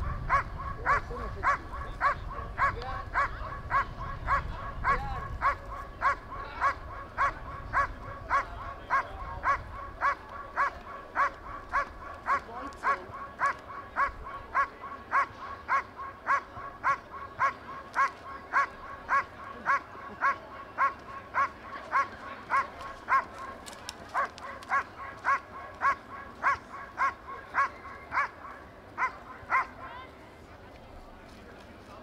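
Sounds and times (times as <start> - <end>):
dog barking: 0.0 - 23.5, 24.1 - 29.8.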